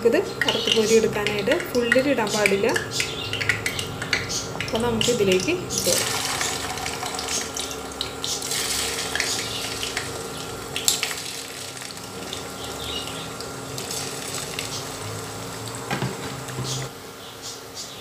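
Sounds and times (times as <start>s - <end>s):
potatoes sizzling in hot oil: 0.4s - 16.9s.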